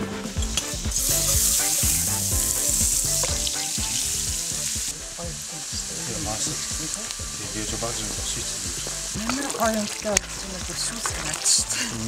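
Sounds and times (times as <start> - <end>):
butter sizzling in a pan: 0.4 - 12.0
carrots frying in a pan: 0.4 - 12.0.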